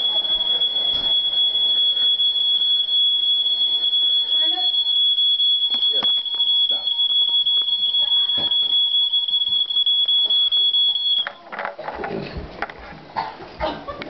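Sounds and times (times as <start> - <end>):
smoke alarm pulsing tone: 0.0 - 11.4.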